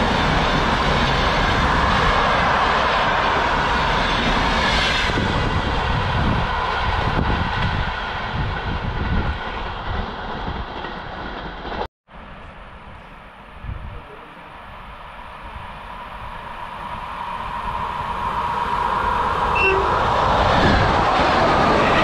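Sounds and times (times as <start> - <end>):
train passing with loud rumbling: 0.0 - 22.0.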